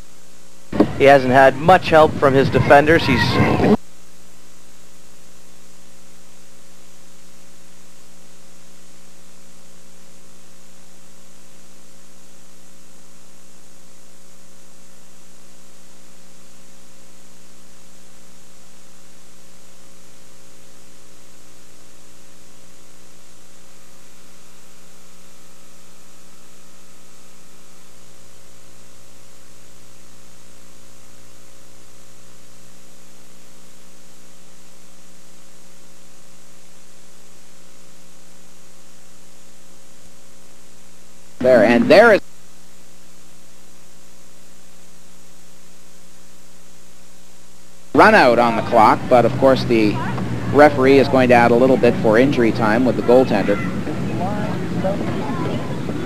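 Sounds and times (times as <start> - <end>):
electrical mains hum with hiss: 0.0 - 56.0.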